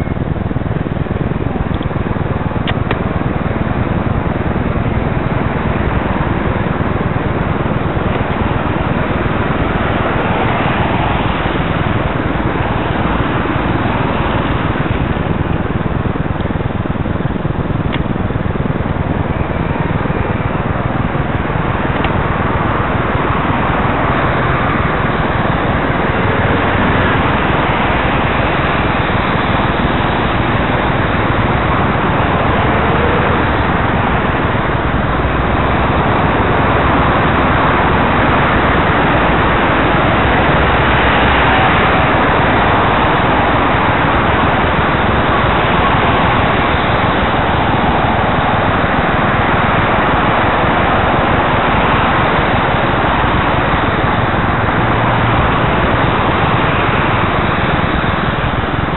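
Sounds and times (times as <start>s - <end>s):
road traffic passing: 0.0s - 58.9s
wind on microphone: 0.0s - 58.9s.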